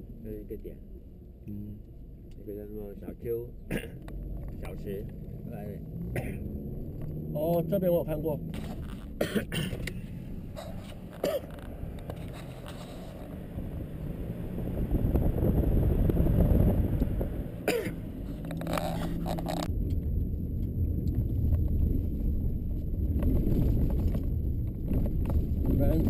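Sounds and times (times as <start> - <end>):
vehicle engine and tyres rumbling: 0.0 - 26.0.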